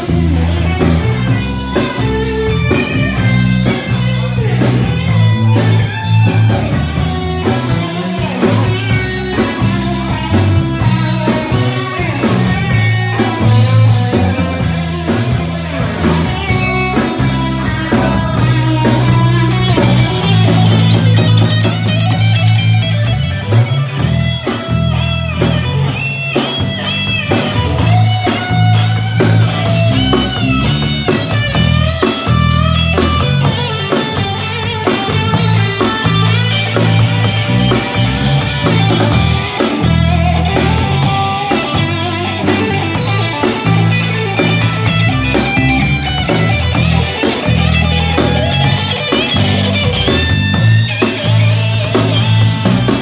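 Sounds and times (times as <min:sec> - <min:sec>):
bass line: 0:00.0 - 0:53.0
drum beat: 0:00.0 - 0:53.0
live rock band playing: 0:00.0 - 0:53.0.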